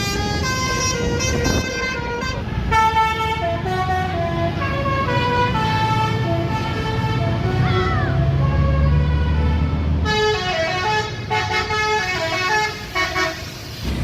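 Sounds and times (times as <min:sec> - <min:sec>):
multi-tone air horn melody: 0:00.0 - 0:13.7
bus engine low rumble: 0:00.0 - 0:14.0.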